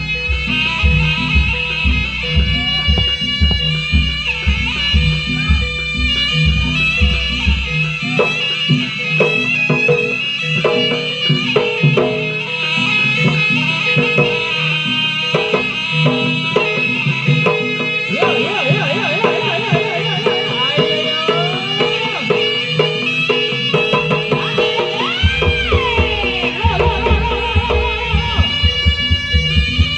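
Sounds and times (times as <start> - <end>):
hand drums rhythm: 0.0 - 14.6, 15.3 - 29.9
shrill reed wind instrument: 0.0 - 29.9.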